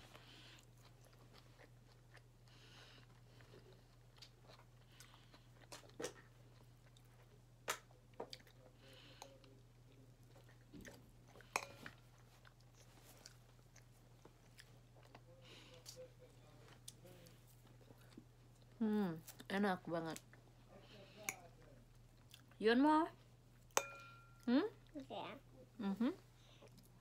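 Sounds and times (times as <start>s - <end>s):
faint steady hum: 0.0s - 27.0s
chewing food: 0.1s - 19.5s, 20.1s - 22.6s, 26.4s - 27.0s.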